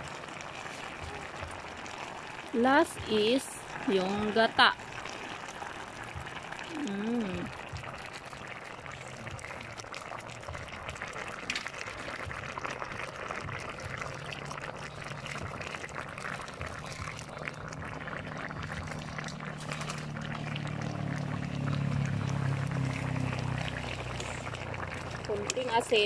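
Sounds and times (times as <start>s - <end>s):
stew bubbling in a wok: 0.0s - 26.0s.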